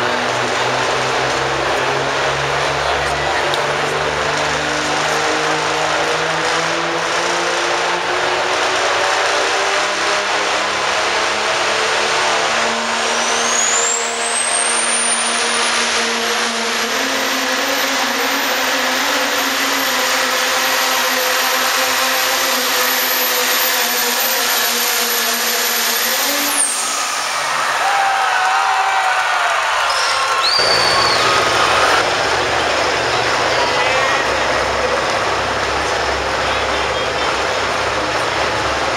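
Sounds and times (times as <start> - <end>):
diesel truck engine under load: 0.0 - 27.9, 29.5 - 38.9
high turbo whine: 0.0 - 38.9.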